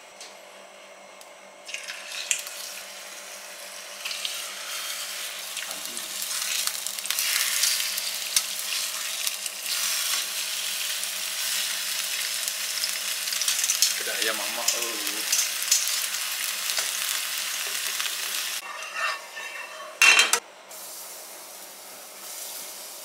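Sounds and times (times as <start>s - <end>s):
meat sizzling in a frying pan: 1.7s - 19.1s, 20.7s - 23.0s.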